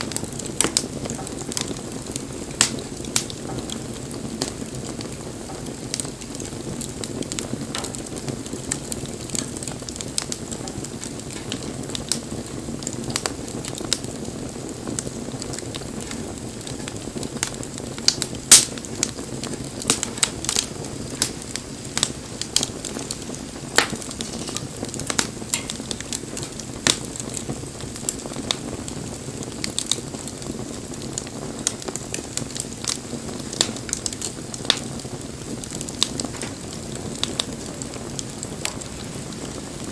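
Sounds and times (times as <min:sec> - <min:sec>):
fire crackling and popping: 0:00.0 - 0:39.9
flame rushing: 0:00.0 - 0:39.9.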